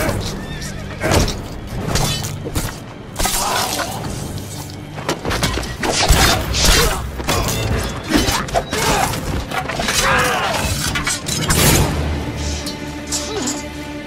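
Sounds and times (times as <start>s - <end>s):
sword blades clashing: 0.0s - 4.5s, 5.4s - 13.7s
orchestral music: 0.0s - 14.0s.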